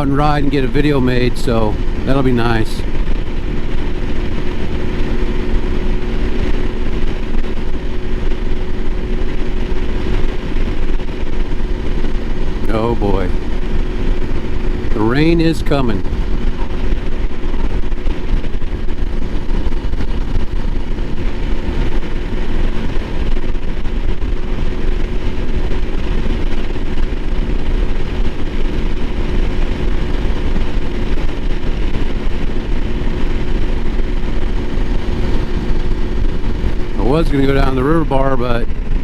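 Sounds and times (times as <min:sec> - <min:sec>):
motorcycle engine running: 0:00.0 - 0:39.0
wind on microphone: 0:00.0 - 0:39.0.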